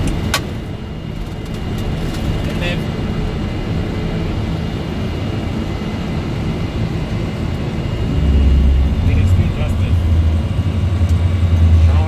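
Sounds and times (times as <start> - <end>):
deep low rumble: 0.0 - 12.0
jet engine and airflow rush: 0.0 - 12.0.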